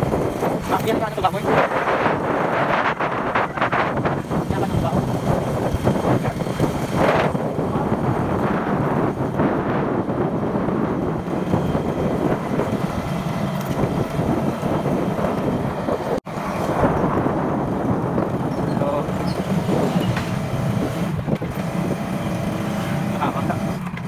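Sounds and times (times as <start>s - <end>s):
road vehicle running: 0.0s - 24.0s
wind buffeting microphone: 0.0s - 24.0s.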